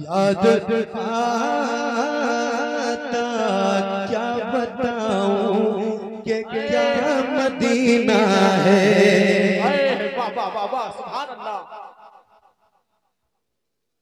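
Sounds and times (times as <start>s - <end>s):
man singing: 0.0s - 11.7s.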